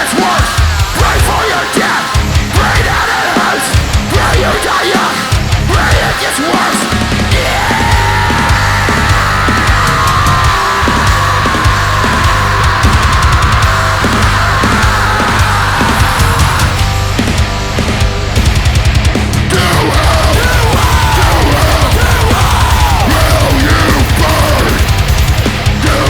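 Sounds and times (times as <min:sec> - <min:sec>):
instrumental heavy metal music: 0:00.0 - 0:26.0.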